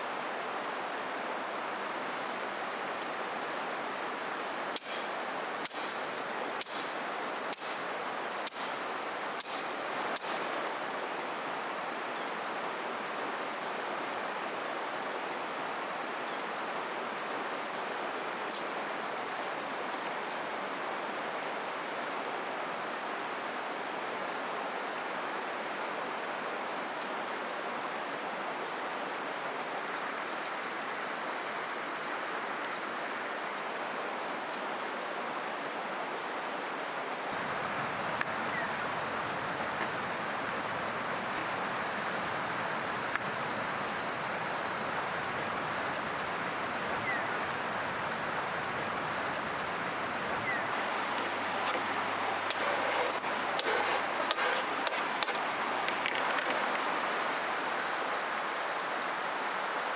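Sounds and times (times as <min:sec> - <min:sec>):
river flowing: 0:00.0 - 0:19.8, 0:30.6 - 0:59.9.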